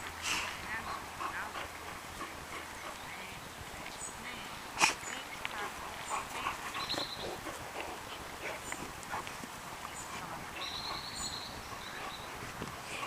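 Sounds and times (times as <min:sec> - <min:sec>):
dogs vocalizing: 0:00.0 - 0:13.0.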